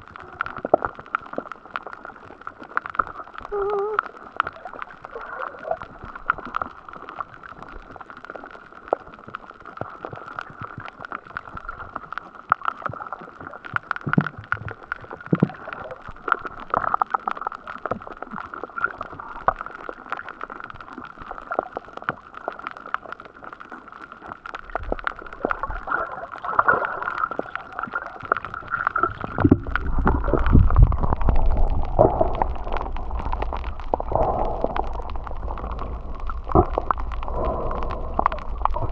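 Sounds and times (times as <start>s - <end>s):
muffled underwater hiss: 0.0s - 38.9s
small clicks and crackles: 0.0s - 38.9s
water rumbling against camera: 0.0s - 38.9s.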